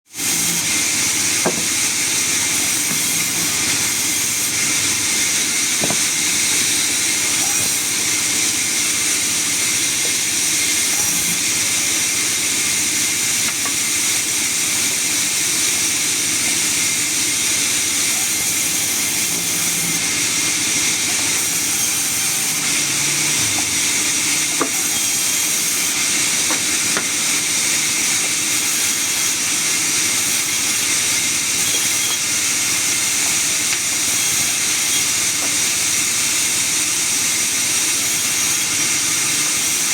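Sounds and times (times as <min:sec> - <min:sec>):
saw cutting wood hiss: 0:00.1 - 0:39.9.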